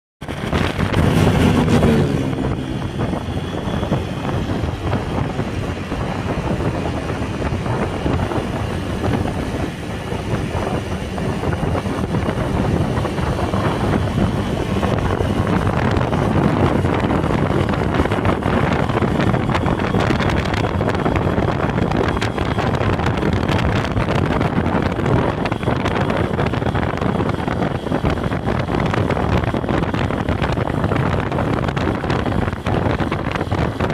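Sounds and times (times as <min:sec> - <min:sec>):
motorcycle engine running: 0:00.2 - 0:33.9
wind buffeting microphone: 0:00.2 - 0:33.9.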